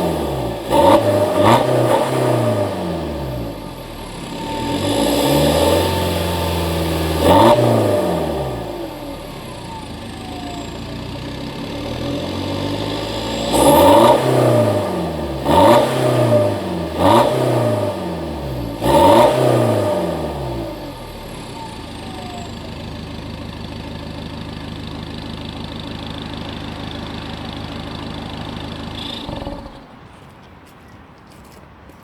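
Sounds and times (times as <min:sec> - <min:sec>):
diesel engine revving: 0:00.0 - 0:30.0.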